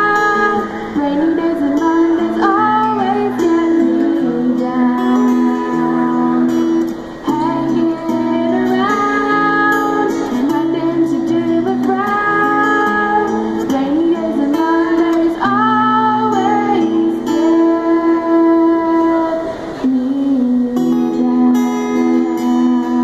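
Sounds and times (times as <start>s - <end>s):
acoustic guitar: 0.0s - 23.0s
young woman singing: 0.0s - 23.0s.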